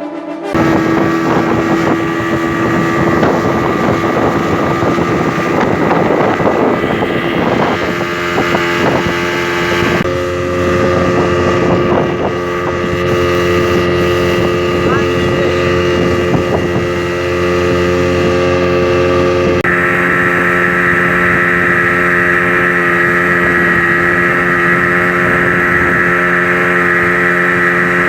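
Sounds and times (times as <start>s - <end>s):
speedboat engine running: 0.5s - 28.0s
water rushing past hull: 0.5s - 28.0s
wind buffeting microphone: 0.5s - 28.0s.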